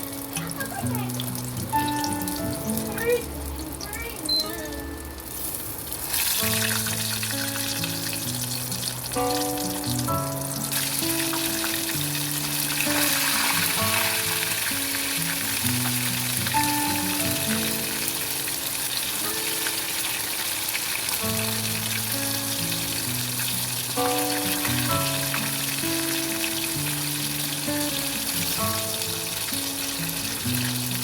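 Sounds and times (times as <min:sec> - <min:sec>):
background music of held notes: 0:00.0 - 0:31.0
food sizzling in a pan: 0:00.0 - 0:31.0.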